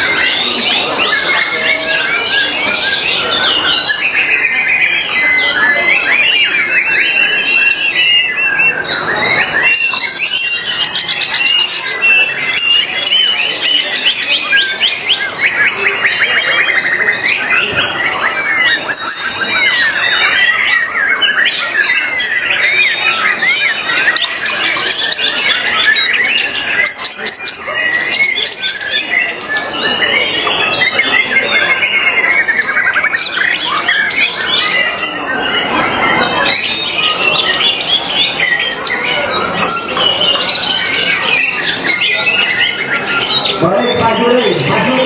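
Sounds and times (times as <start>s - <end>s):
songbird singing trills and whistles: 0.0s - 45.0s.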